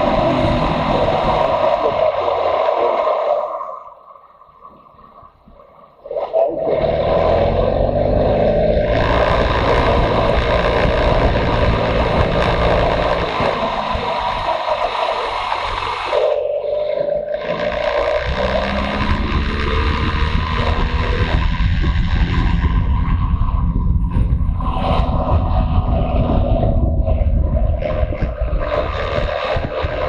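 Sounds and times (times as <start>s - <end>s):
motorcycle engine drone: 0.0s - 3.5s, 5.2s - 30.0s.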